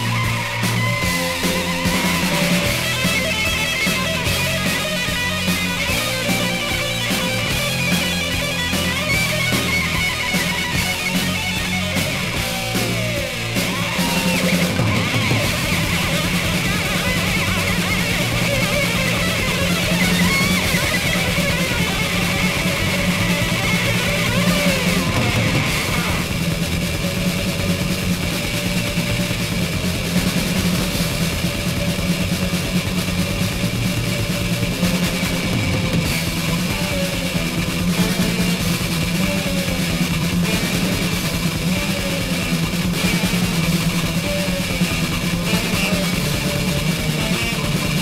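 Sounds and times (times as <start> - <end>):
bass: 0.0 - 48.0
distorted electric guitars: 0.0 - 48.0
fast dense drumming: 0.0 - 48.0.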